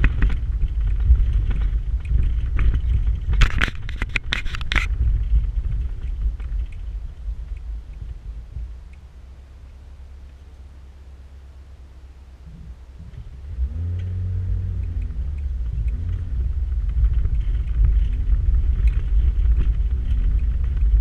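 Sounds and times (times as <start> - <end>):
stones ticking under tyres: 0.0 - 10.6, 12.5 - 21.0
vehicle engine and tyres rumbling: 0.0 - 21.0.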